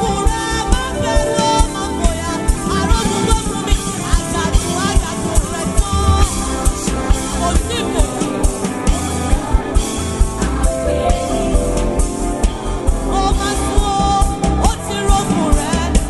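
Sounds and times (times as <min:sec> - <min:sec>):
gospel band music: 0:00.0 - 0:16.0
steady drum beat: 0:00.0 - 0:16.0.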